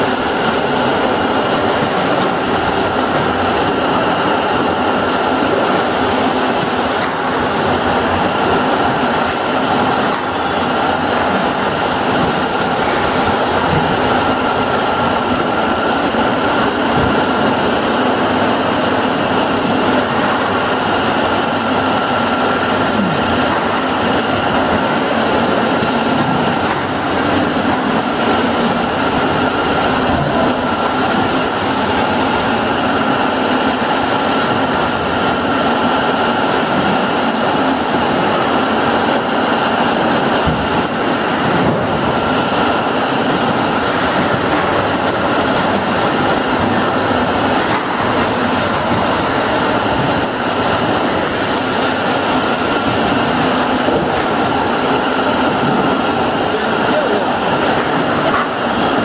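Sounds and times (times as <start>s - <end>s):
steady machine whine: 0.0s - 59.0s.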